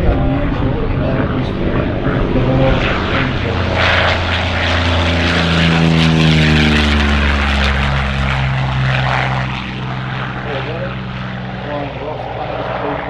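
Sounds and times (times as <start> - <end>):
propeller plane passing overhead: 0.0 - 13.0.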